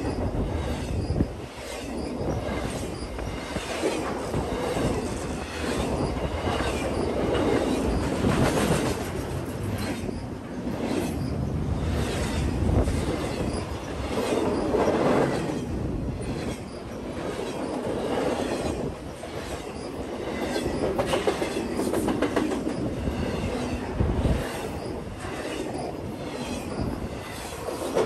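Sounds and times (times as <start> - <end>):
freight train wheel noise: 0.0 - 28.0
rhythmic clicks over rail joints: 0.0 - 28.0.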